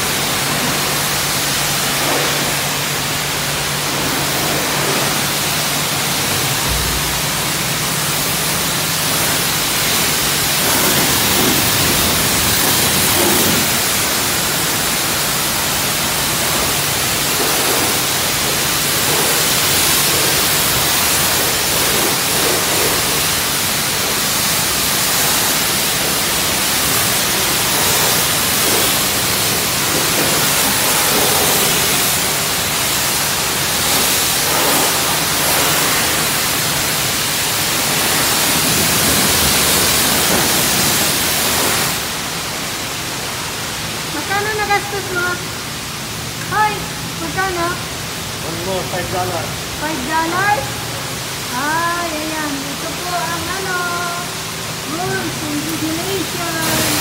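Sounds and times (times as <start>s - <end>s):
pressure washer water jet hissing: 0.0s - 57.0s.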